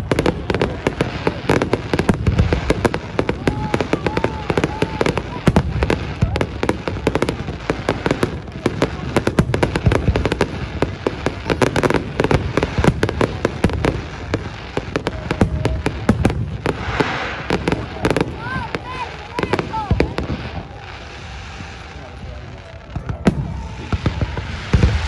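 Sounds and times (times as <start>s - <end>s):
fireworks bangs and crackles: 0.0s - 25.0s
hissing crackle: 0.0s - 25.0s.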